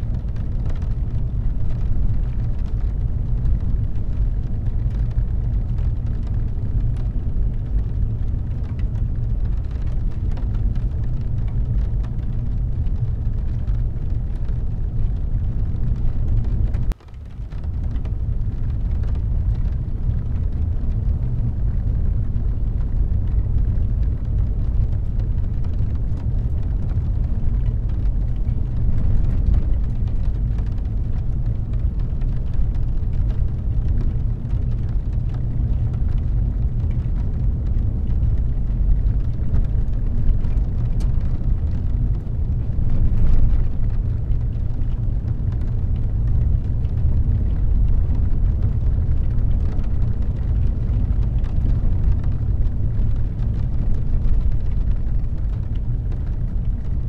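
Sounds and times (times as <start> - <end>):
rain falling on a car: 0.0 - 57.0
steady low rumble: 0.0 - 57.0.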